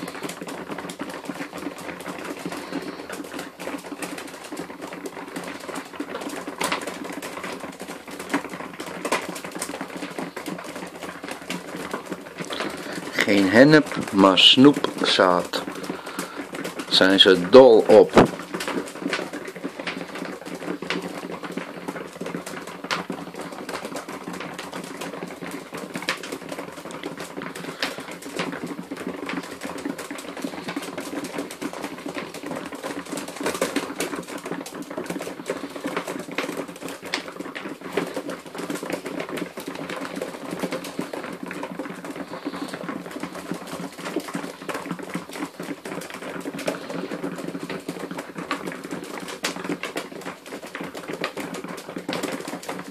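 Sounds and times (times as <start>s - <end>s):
pigeons pecking seed: 0.0s - 52.9s.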